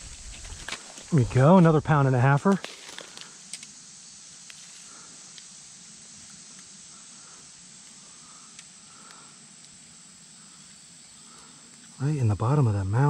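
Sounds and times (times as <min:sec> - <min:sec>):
insects hissing: 0:00.0 - 0:13.0.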